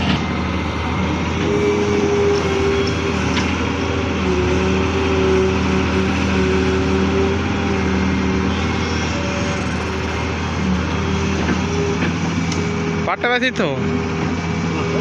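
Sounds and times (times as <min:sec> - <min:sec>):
diesel engines droning: 0:00.0 - 0:15.0
held engine tone: 0:00.0 - 0:15.0.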